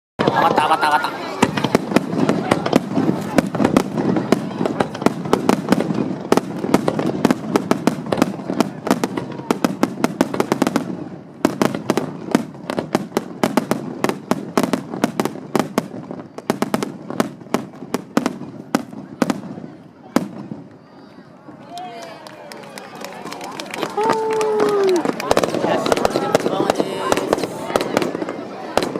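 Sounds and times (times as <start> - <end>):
fireworks cracking and banging: 0.2 - 28.9.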